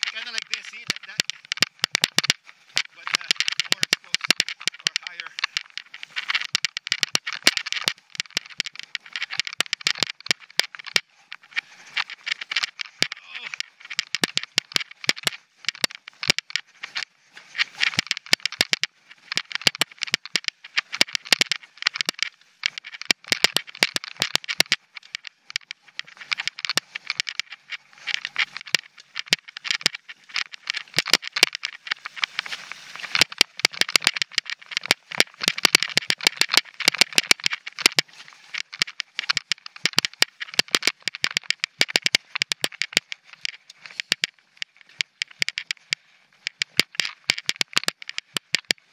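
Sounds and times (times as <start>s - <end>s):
mountain bike rattling: 0.0s - 48.9s.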